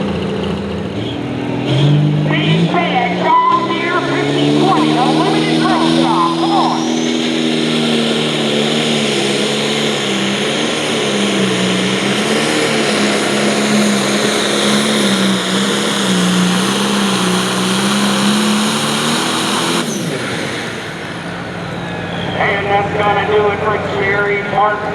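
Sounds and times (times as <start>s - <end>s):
tractor diesel engine running flat out: 0.0s - 24.9s.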